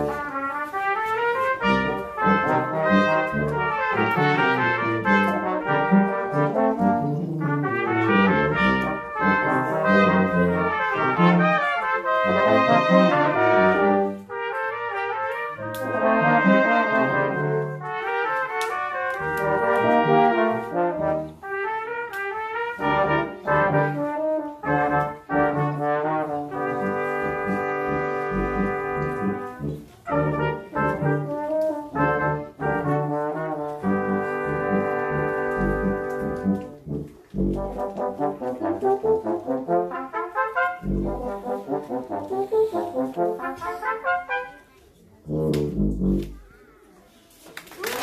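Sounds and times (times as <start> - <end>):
brass quintet playing a tango: 0.0 - 46.6.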